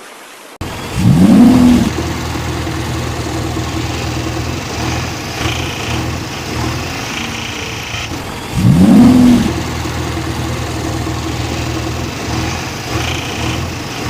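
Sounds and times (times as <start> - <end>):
vehicle engine revving: 0.6 - 14.0.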